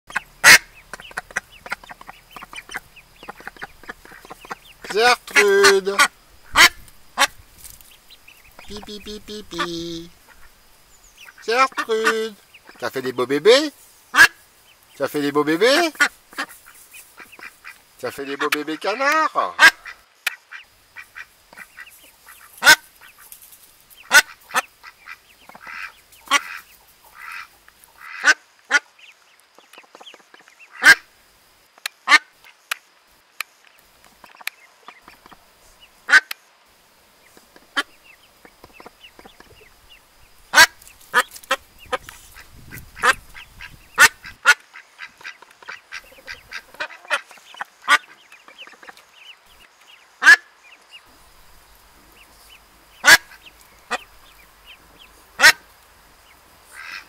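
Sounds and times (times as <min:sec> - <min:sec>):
ducklings peeping: 0:00.1 - 0:31.1, 0:34.2 - 0:36.4, 0:37.2 - 0:57.0.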